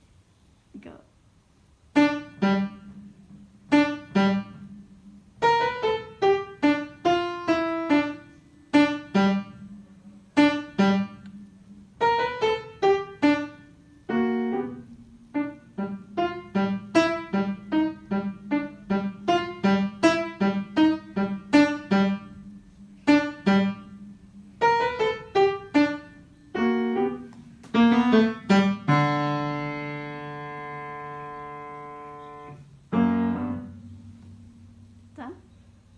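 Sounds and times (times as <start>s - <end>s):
blues piano: 1.8s - 35.9s.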